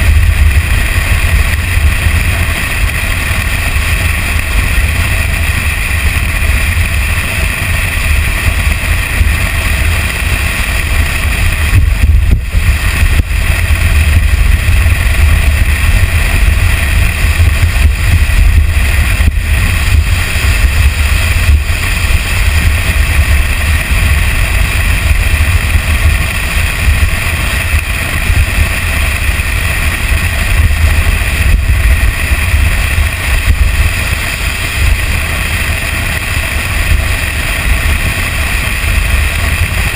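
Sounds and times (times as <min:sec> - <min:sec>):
truck engine running: 0:00.0 - 0:39.9
wind and road noise: 0:00.0 - 0:39.9.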